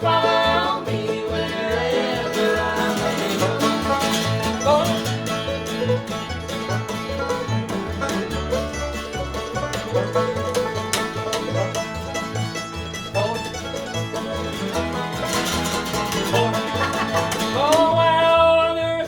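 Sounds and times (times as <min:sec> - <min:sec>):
plucked string instruments: 0:00.0 - 0:19.0
stepping bass line: 0:00.0 - 0:19.0.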